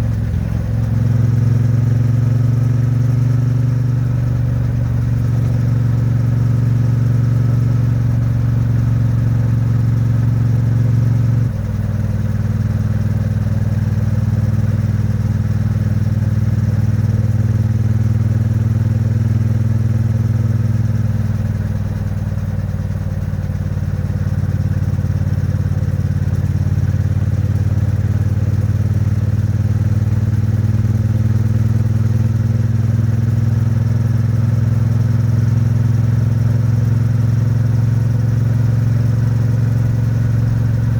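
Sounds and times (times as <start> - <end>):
motorcycle engine and exhaust: 0.0 - 40.9.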